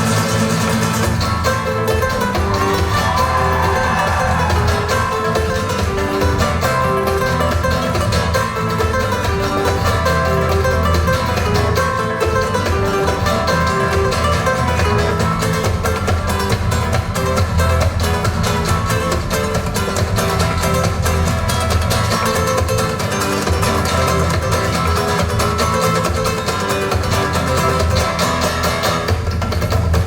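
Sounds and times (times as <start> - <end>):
plucked-string instruments: 0.0 - 30.0
steady bass line and beat: 0.0 - 30.0.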